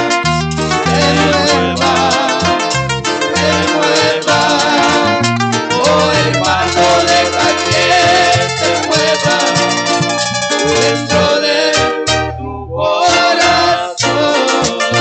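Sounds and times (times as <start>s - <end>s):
latin band music: 0.0s - 15.0s.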